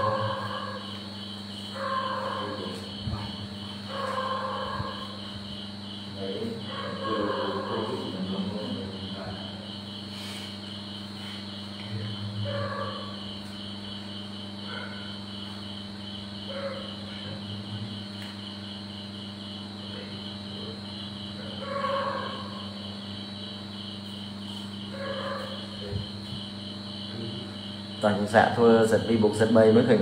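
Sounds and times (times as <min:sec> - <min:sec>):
crickets chirping: 0:00.0 - 0:30.0
low electrical hum: 0:00.0 - 0:30.0.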